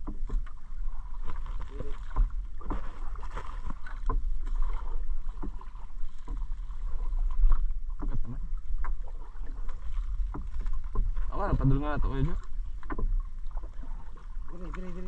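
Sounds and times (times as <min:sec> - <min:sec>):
light splashes and knocks: 0:00.0 - 0:15.0
water lapping against hull: 0:00.0 - 0:15.0.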